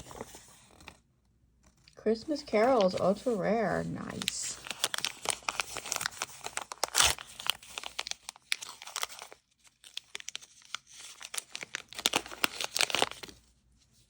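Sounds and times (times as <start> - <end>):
wrapper crinkling and tearing: 1.7 - 14.0.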